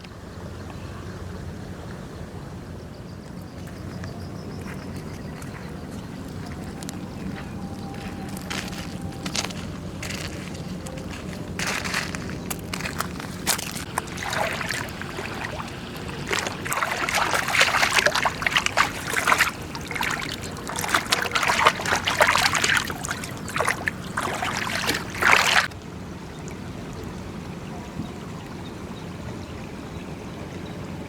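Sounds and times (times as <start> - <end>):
water splashing and sloshing: 3.6 - 29.7.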